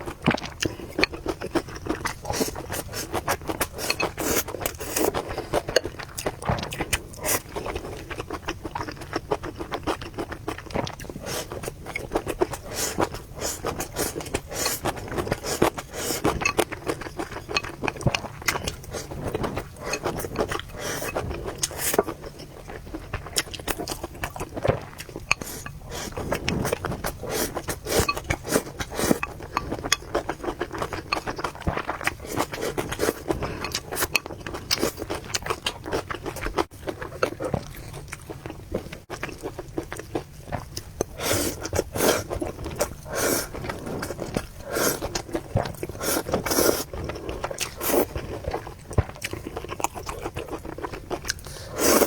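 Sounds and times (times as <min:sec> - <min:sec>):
person chewing and slurping: 0:00.0 - 0:52.0.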